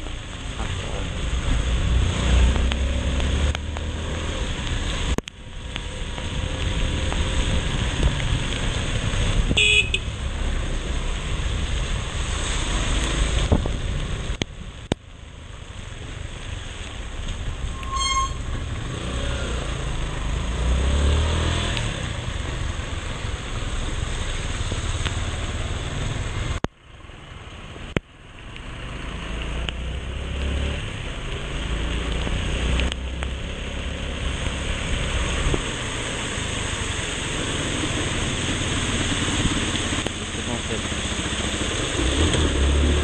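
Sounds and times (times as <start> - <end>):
tyres on wet road: 0.0 - 43.0
wind and rain on microphone: 0.0 - 43.0.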